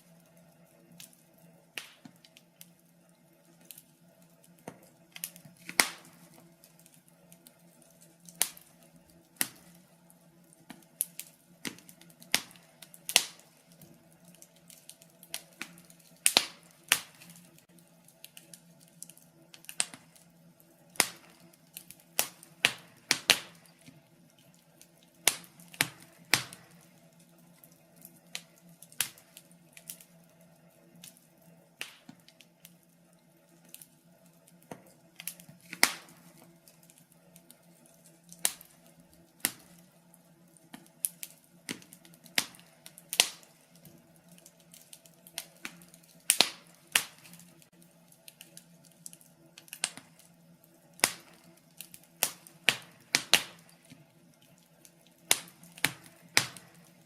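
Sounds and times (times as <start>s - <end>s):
wood logs crackling and popping: 0.0s - 57.0s.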